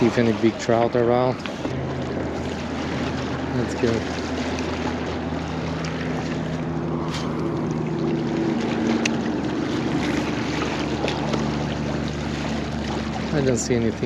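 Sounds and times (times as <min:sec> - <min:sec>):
low engine drone: 0:00.0 - 0:14.0
water noise: 0:00.0 - 0:14.0
wind: 0:00.0 - 0:14.0.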